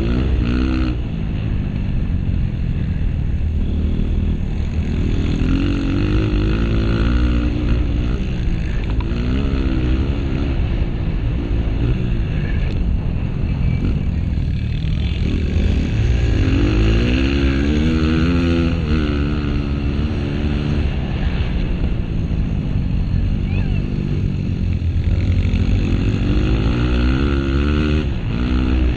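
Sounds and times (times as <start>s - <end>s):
dirt bike engine revving: 0.0s - 22.0s, 23.0s - 28.9s
low rumble: 0.0s - 28.9s.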